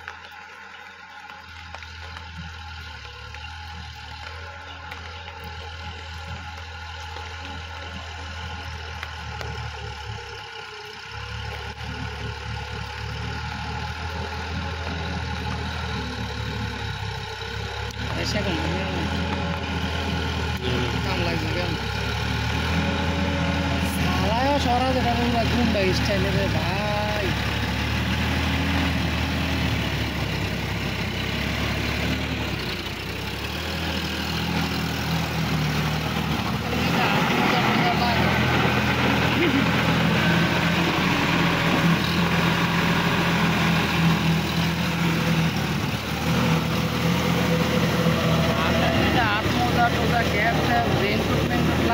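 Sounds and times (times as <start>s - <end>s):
churning mud: 0.0s - 51.9s
tractor diesel engine humming: 0.0s - 51.9s.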